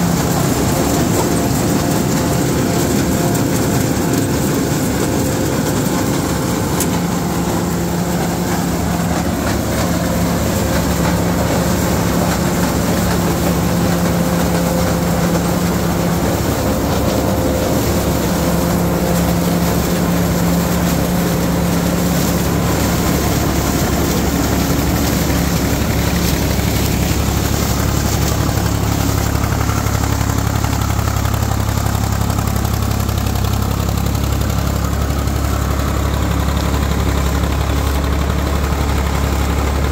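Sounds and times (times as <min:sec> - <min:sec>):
corn picker machine drone: 0:00.0 - 0:39.9
tractor engine drone: 0:00.0 - 0:39.9.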